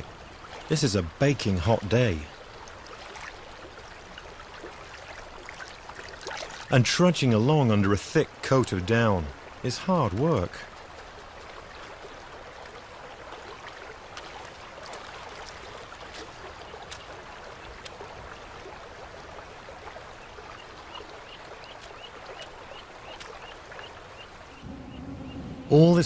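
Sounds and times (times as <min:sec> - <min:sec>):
river water running: 0:00.0 - 0:26.0.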